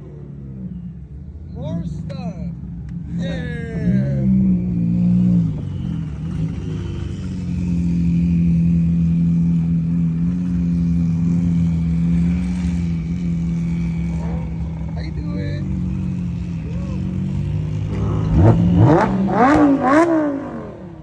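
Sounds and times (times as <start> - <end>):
car engine passing: 0.0 - 21.0.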